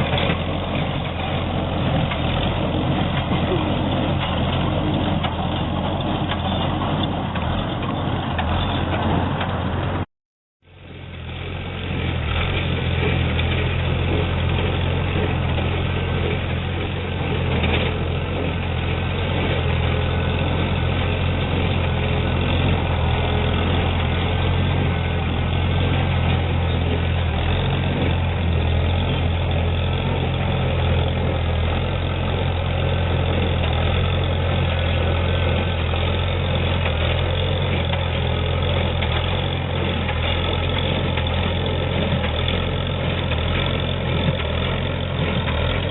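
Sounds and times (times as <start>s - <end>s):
baler working: 0.0s - 10.1s, 10.8s - 45.9s
tractor engine running: 0.0s - 45.9s.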